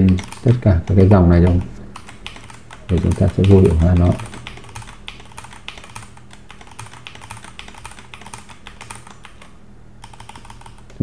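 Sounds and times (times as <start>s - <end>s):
keyboard keys clicking: 0.0s - 11.0s.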